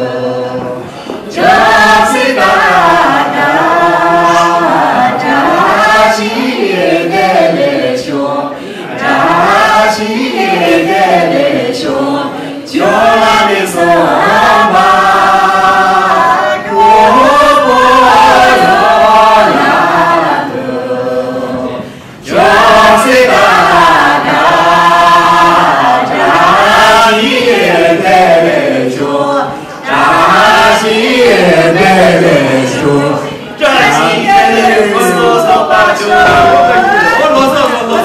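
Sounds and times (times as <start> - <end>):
men and women singing: 0.0 - 38.0.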